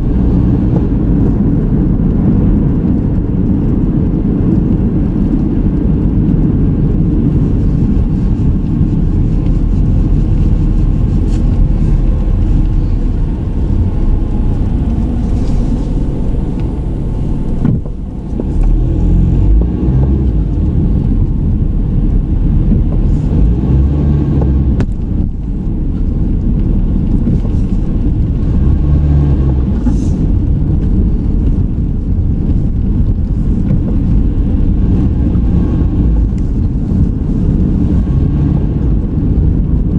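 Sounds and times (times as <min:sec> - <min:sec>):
road and engine noise inside car: 0:00.0 - 0:39.9.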